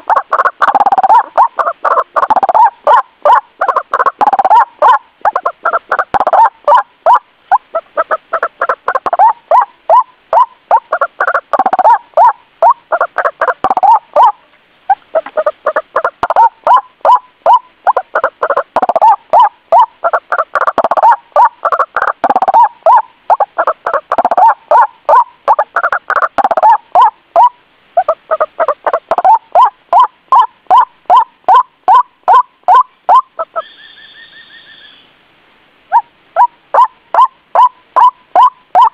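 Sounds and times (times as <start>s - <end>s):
bird calling rapid repeated notes: 0.0s - 35.1s, 35.9s - 38.9s.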